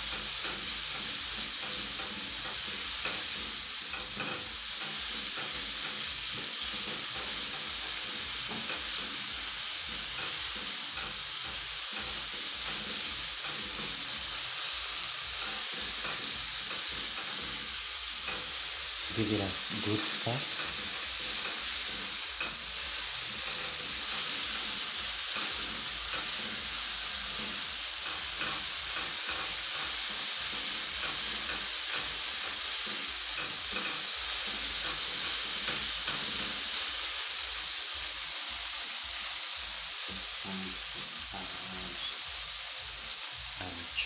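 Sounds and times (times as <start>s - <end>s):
fish sizzling in a pan: 0.0s - 44.0s.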